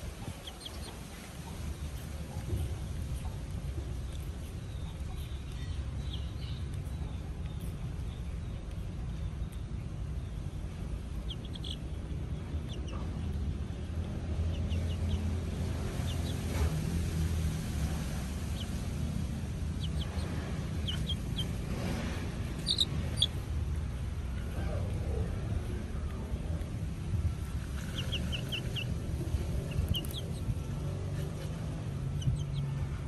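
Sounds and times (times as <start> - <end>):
chick peeping: 0.0 - 8.9, 9.5 - 16.8, 18.1 - 26.7, 27.4 - 32.7.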